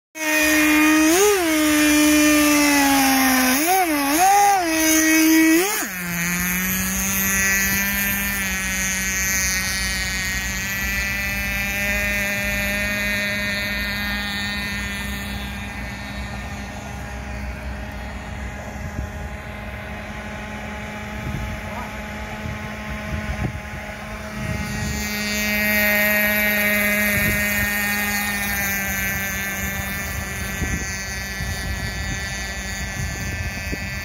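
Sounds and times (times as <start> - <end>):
rc boat engine revving: 0.2 - 34.0.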